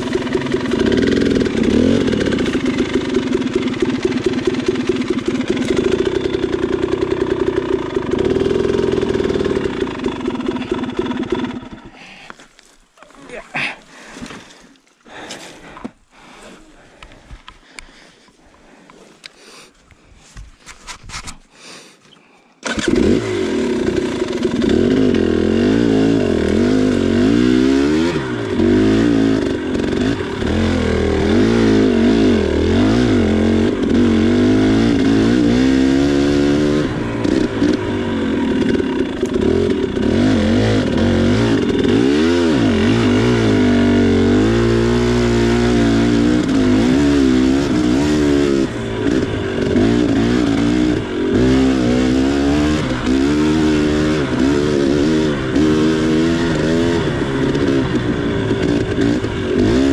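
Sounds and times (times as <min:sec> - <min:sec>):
two-stroke motorcycle engine revving: 0:00.0 - 0:12.1, 0:22.6 - 0:59.9.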